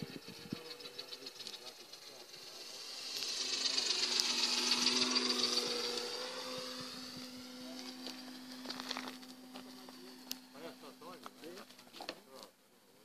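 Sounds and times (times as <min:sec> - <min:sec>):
model aircraft motor whine: 0:00.0 - 0:12.5.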